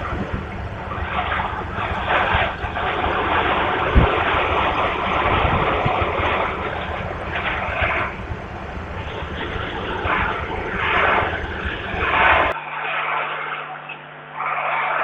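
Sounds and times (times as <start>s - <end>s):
aircraft engine running: 0.0s - 12.6s
wind buffeting microphone: 0.0s - 12.6s.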